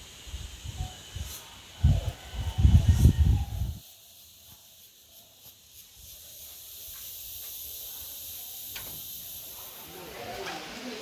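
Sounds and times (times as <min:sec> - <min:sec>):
forest insects hissing: 0:00.0 - 0:11.0.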